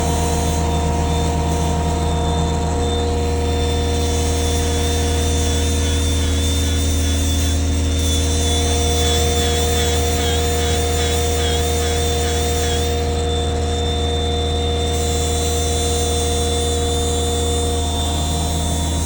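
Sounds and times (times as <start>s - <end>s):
engine low hum: 0.0s - 19.0s
faint wavering high whine: 0.0s - 19.0s.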